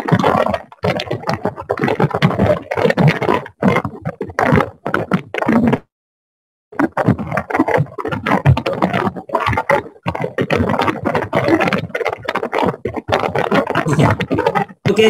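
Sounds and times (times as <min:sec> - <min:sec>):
crackling microphone interference: 0:00.0 - 0:05.9, 0:06.8 - 0:15.0.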